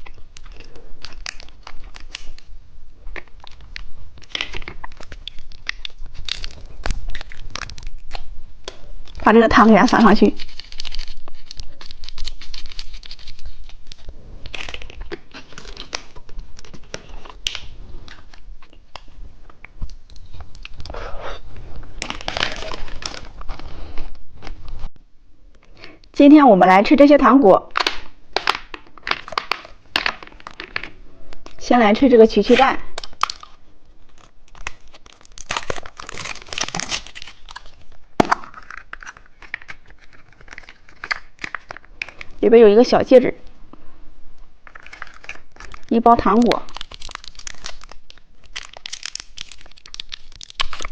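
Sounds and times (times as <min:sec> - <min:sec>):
candy packaging crinkling: 0:00.0 - 0:24.6, 0:27.6 - 0:43.2, 0:44.6 - 0:50.9.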